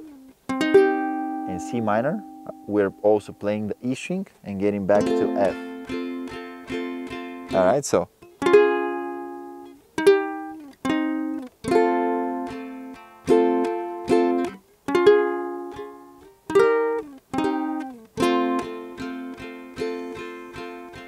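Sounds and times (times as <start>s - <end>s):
ukulele fingerpicked chords: 0.0s - 21.0s.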